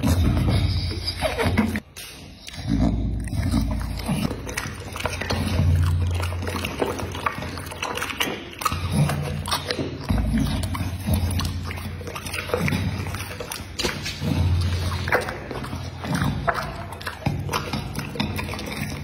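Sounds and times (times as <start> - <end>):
dog licking lips wet smacking: 3.6 - 19.0.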